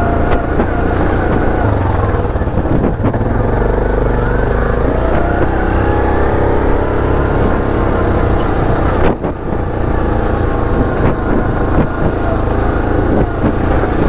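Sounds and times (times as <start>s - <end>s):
atv engine running on gravel: 0.0s - 14.0s.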